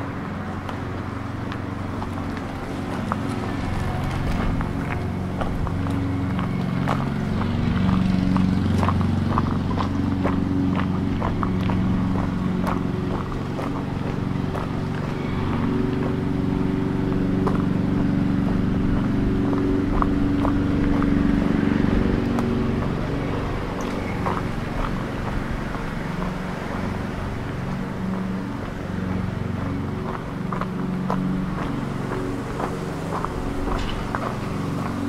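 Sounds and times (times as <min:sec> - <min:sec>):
vehicle engine running: 0:00.0 - 0:35.0
footsteps on gravel: 0:00.1 - 0:35.0.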